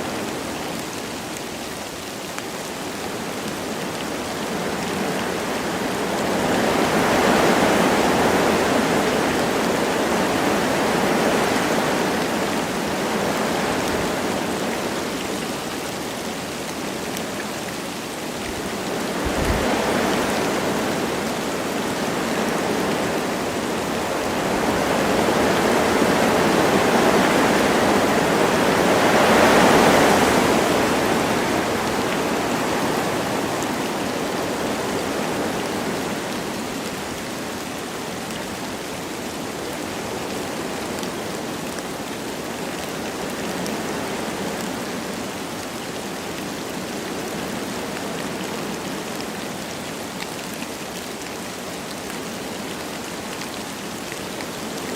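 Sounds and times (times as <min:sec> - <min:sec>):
light rain falling: 0:00.0 - 0:54.9
wind through trees: 0:00.0 - 0:54.9.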